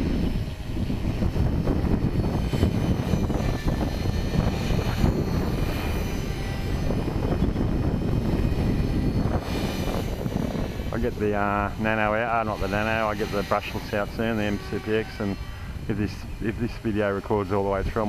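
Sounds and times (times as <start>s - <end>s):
helicopter motor whine: 0.0s - 18.0s
wind buffeting microphone: 0.0s - 18.0s.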